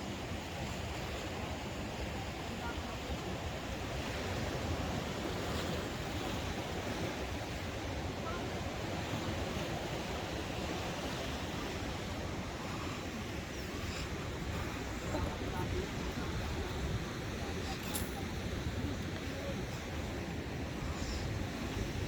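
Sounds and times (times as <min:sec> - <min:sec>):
ocean surf washing: 0:00.0 - 0:22.0
wind: 0:00.0 - 0:22.0.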